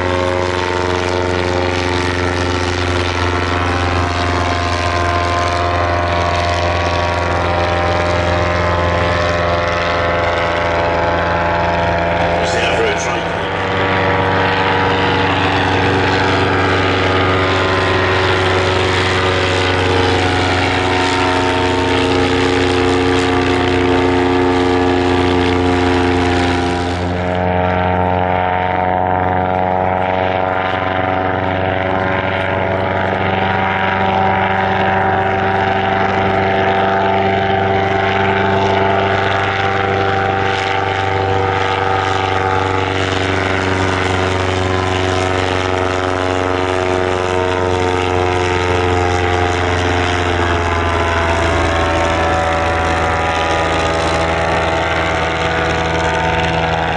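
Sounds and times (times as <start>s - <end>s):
propeller aircraft engine drone: 0.0s - 56.9s.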